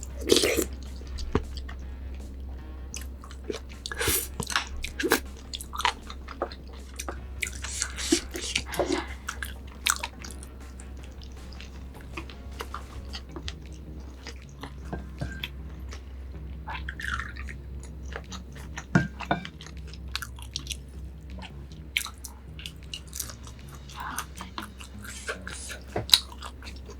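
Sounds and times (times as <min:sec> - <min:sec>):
crunchy biting and chewing: 0:00.0 - 0:26.9
steady low hum: 0:00.0 - 0:26.9.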